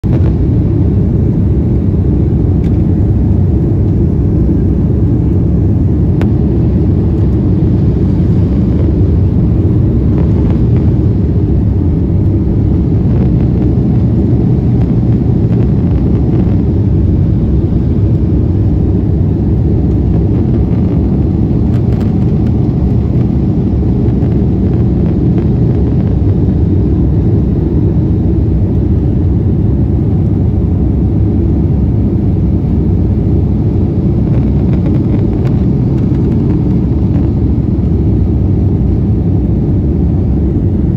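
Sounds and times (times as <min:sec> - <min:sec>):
jet engines rumbling: 0:00.0 - 0:40.9
rushing air: 0:00.0 - 0:40.9.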